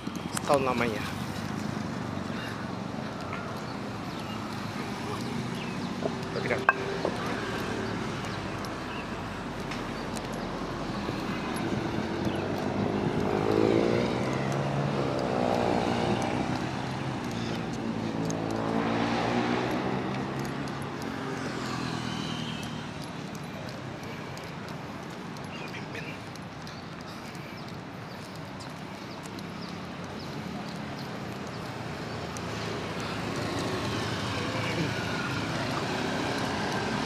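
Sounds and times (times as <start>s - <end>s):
background traffic: 0.0s - 37.0s
vehicles driving past: 0.0s - 37.0s.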